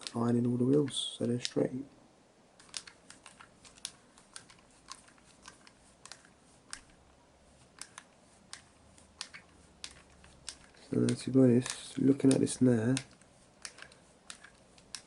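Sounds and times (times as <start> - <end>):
small plastic parts clicking: 0.0 - 1.7, 2.6 - 7.0, 7.7 - 15.0.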